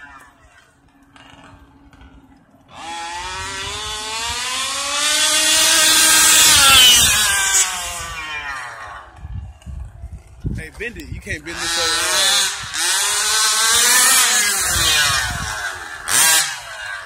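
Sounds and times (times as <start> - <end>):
high-revving toy car engine: 0.0 - 9.9, 11.3 - 17.0.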